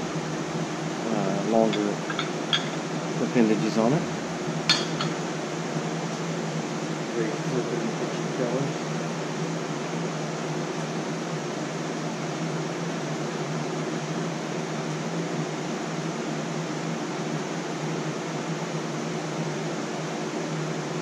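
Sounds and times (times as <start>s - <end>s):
electric fans whirring: 0.0s - 21.0s.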